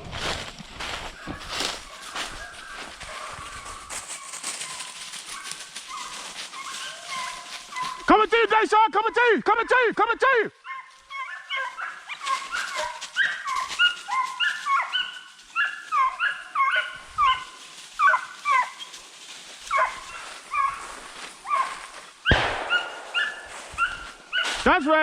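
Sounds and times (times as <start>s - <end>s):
hounds baying: 0.8s - 8.1s, 10.5s - 24.7s.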